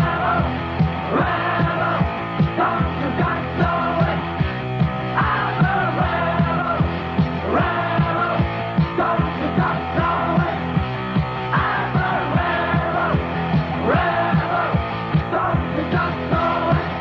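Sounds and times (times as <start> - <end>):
rock song with singing: 0.0 - 17.0
steady drum beat: 0.0 - 17.0.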